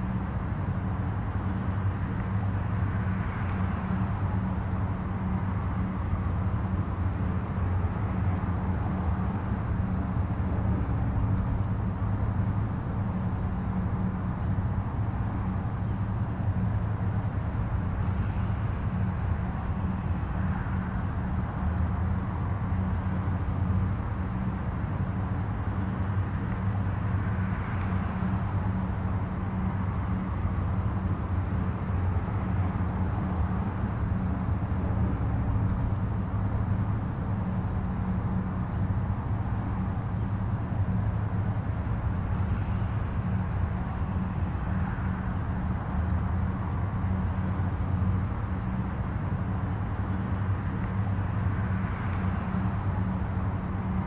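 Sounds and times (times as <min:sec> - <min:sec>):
distant highway traffic rumble: 0:00.0 - 0:54.0.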